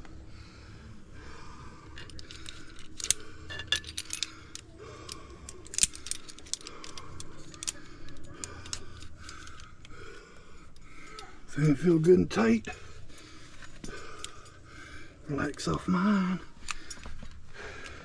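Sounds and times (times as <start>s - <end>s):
metal climbing hardware clinking: 1.8s - 10.0s, 10.6s - 16.0s, 16.6s - 18.0s.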